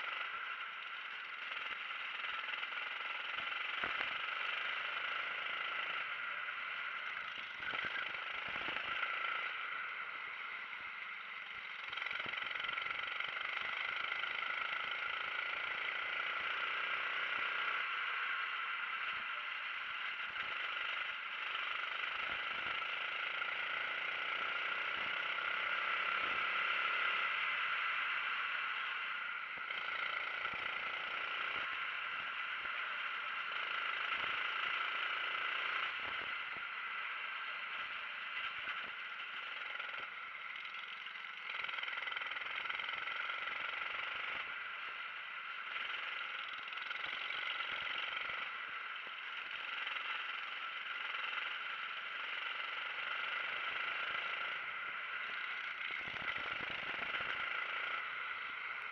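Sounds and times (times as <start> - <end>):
racing kart engine running hard: 0.0 - 58.9.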